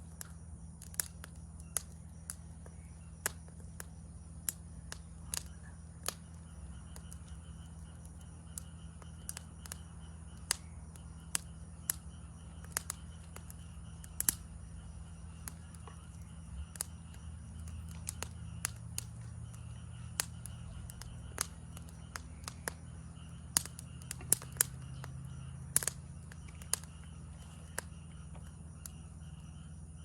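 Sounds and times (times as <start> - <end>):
campfire crackling and popping: 0.0 - 30.0
insects trilling: 0.0 - 30.0
lower insect chirping: 0.0 - 30.0.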